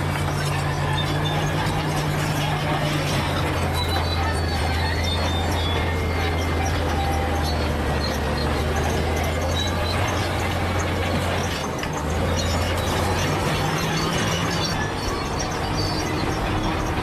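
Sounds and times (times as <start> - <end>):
bulldozer diesel engine running: 0.0 - 17.0
high metallic squeaks: 0.0 - 17.0.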